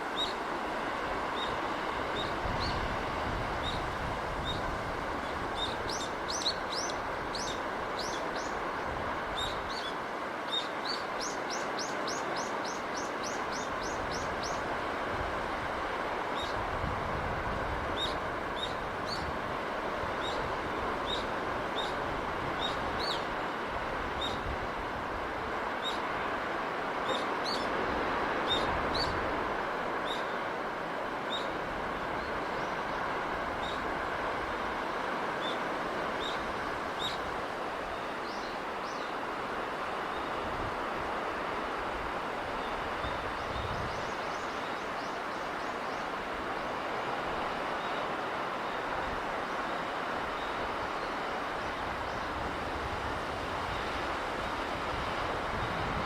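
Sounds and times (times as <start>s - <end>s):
sea breeze rushing: 0.0s - 56.0s.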